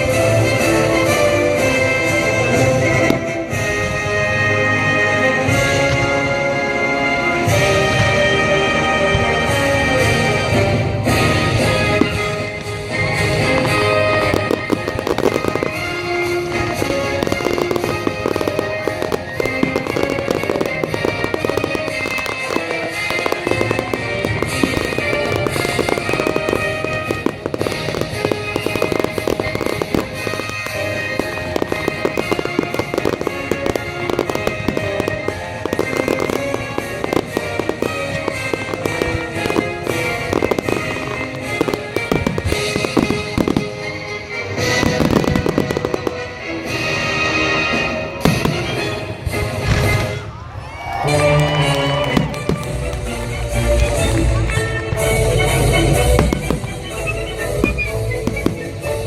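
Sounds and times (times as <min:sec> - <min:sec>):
fireworks bursting and crackling: 0:00.0 - 0:59.0
music soundtrack: 0:00.0 - 0:59.0.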